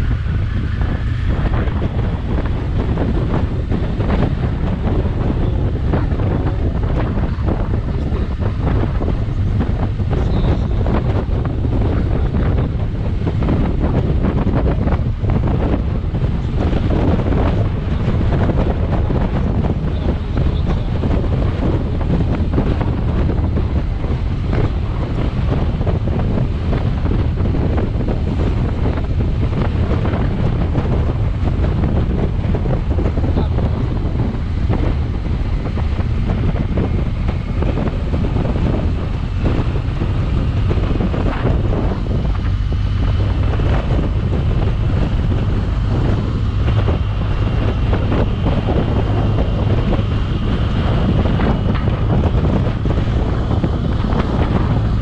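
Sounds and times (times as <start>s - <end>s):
road noise: 0.0s - 55.0s
wind buffeting microphone: 0.0s - 55.0s.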